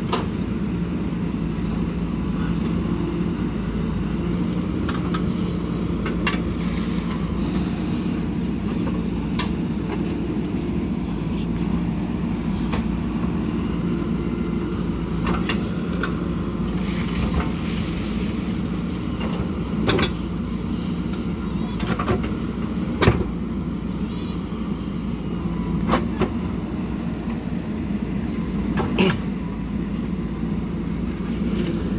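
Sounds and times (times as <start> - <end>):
backhoe diesel engine working: 0.0 - 31.9.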